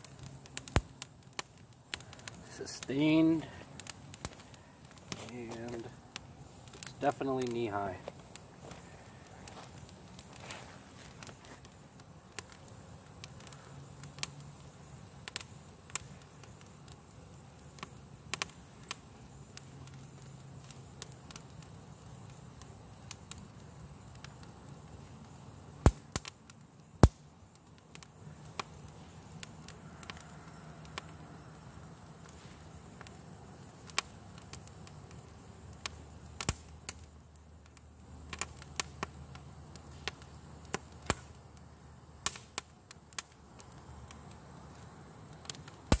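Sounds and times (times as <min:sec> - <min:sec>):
twig fire crackling and popping: 0:00.0 - 0:46.0.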